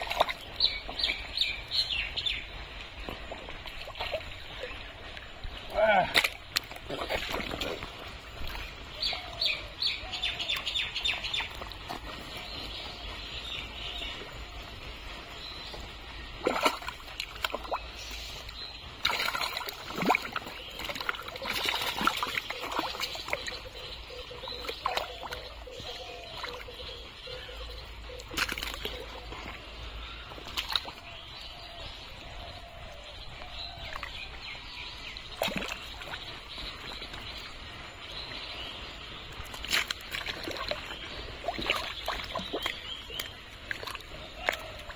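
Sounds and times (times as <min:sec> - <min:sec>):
birds chirping: 0:00.0 - 0:44.9
muddy water sloshing and splashing: 0:00.0 - 0:44.9.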